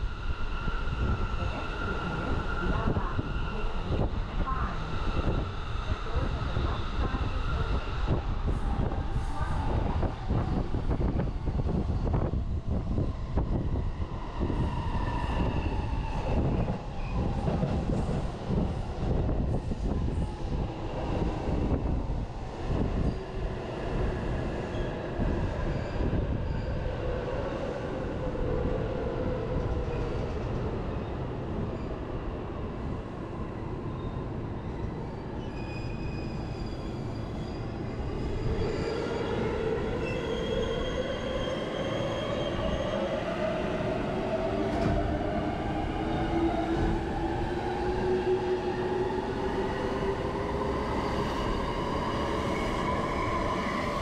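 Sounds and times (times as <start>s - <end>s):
train passing close by: 0.0s - 54.0s.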